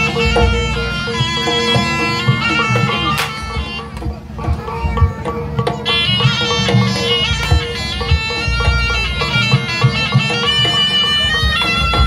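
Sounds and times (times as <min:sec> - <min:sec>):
shrill reed trumpet melody: 0:00.0 - 0:04.5, 0:05.6 - 0:12.0.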